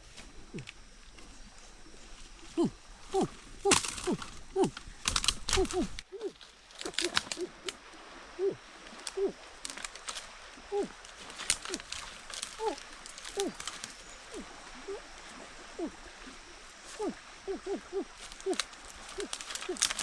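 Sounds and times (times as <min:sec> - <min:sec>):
rustling: 0:00.0 - 0:07.8, 0:08.4 - 0:15.2, 0:16.7 - 0:20.0.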